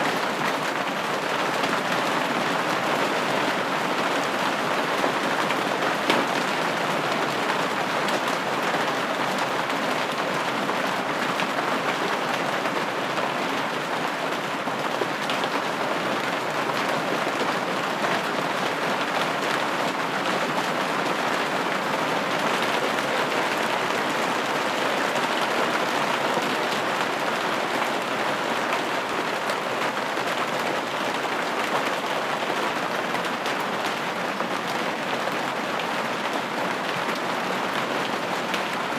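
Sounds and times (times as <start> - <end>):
rain pattering on a window: 0.0 - 38.9.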